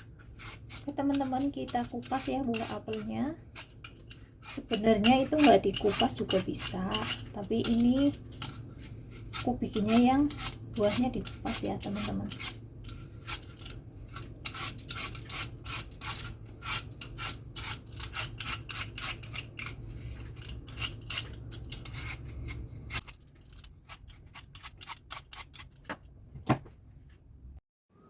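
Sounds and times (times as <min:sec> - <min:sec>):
knife scraping apple skin: 0:00.1 - 0:25.8.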